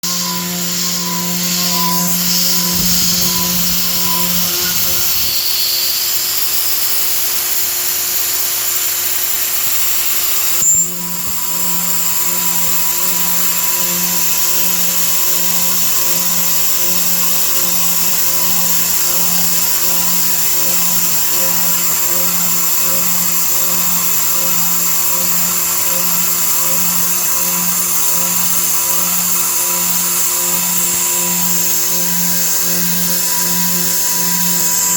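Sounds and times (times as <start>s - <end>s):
mill spindle whining: 0.0s - 34.9s.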